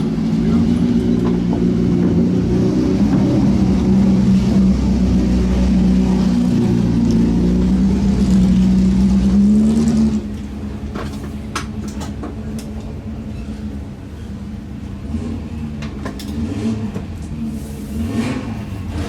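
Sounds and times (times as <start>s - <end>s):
race car engine running loud: 0.0s - 19.0s.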